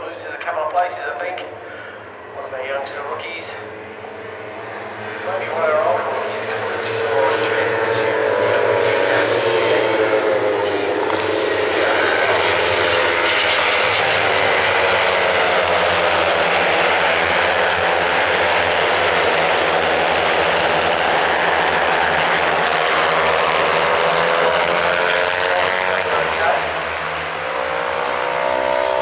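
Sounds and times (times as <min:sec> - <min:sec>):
racing motorcycles at high revs: 0:04.0 - 0:29.0.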